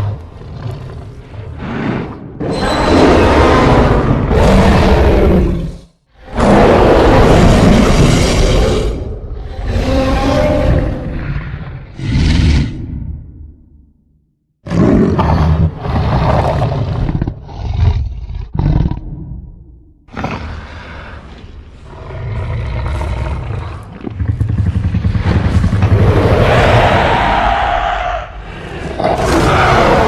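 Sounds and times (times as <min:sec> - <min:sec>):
deep growls and roars: 0:00.0 - 0:13.7, 0:14.6 - 0:30.0.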